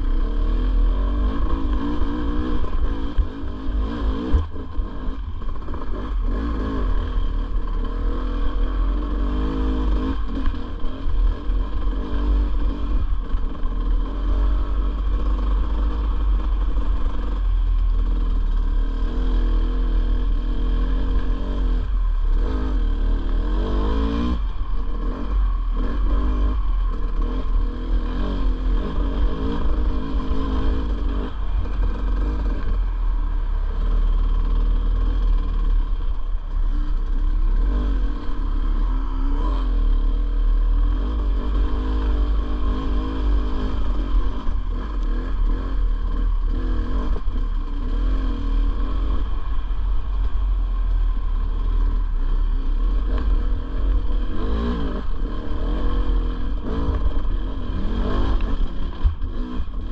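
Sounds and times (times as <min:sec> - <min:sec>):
dirt bike engine revving: 0:00.0 - 0:36.0, 0:36.6 - 0:50.2, 0:51.4 - 0:59.9.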